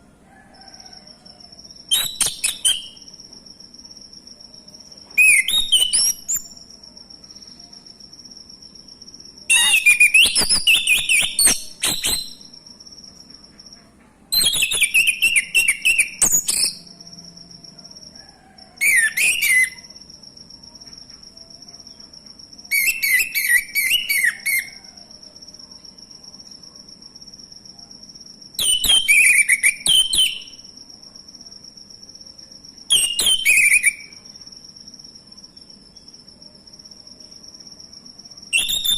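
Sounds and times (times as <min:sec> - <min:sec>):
cricket trilling: 0:00.0 - 0:38.9.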